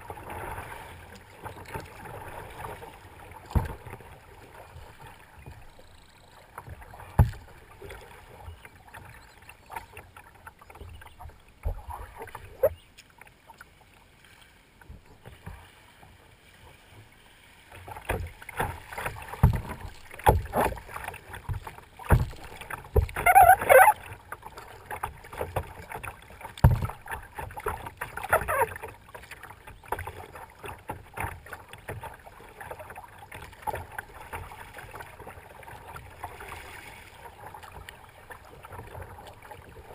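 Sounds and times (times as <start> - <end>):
paddle strokes and water splashing: 0.0 - 39.9.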